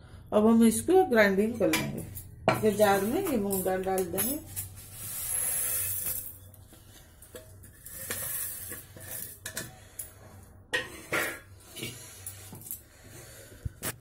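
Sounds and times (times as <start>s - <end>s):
steel clinks and scrapes: 1.6s - 12.9s.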